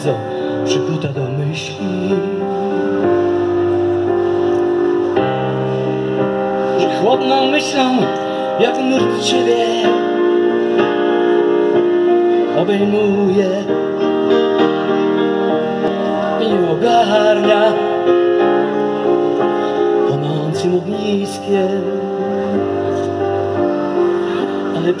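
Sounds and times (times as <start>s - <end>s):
grand piano slow chords: 0.0s - 25.0s.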